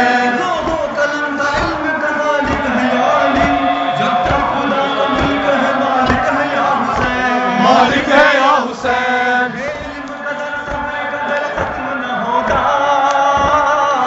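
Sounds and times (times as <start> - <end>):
faint low thumps: 0.0 - 13.9
men chanting a lament: 0.0 - 14.0.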